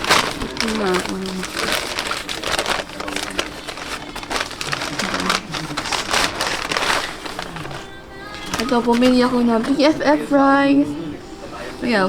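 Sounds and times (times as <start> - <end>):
paper packaging crinkling: 0.0 - 10.4
faint television voice: 0.0 - 12.0.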